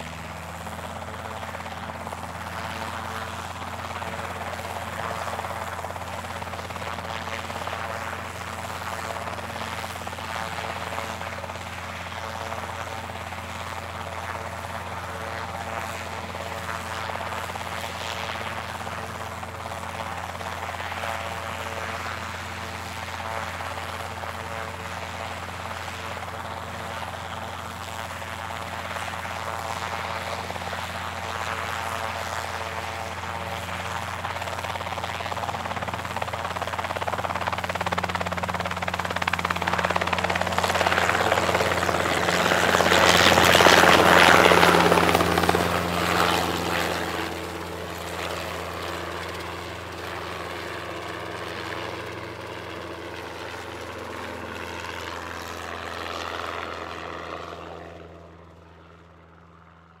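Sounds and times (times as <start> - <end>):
helicopter rushing noise: 0.0 - 59.9
helicopter rotor and turbine hum: 0.0 - 60.0.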